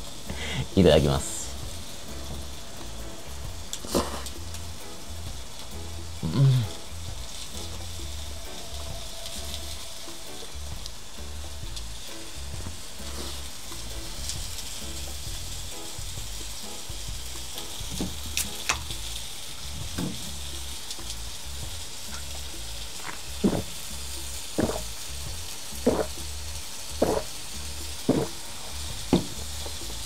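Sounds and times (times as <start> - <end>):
meat sizzling on grill: 0.0 - 30.0.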